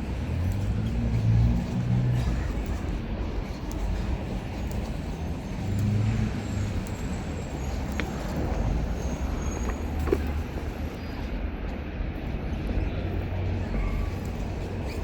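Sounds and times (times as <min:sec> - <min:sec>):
low engine hum: 0:00.0 - 0:15.0
vehicles passing: 0:00.0 - 0:15.0.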